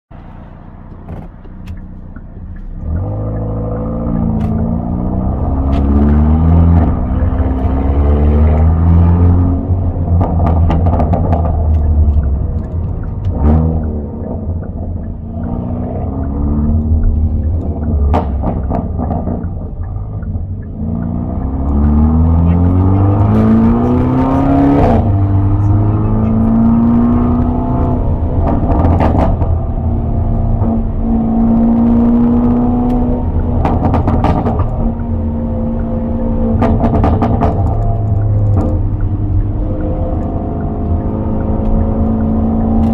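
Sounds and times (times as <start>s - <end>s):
car engine revving: 0.1s - 42.9s
exhaust cracks: 0.1s - 42.9s.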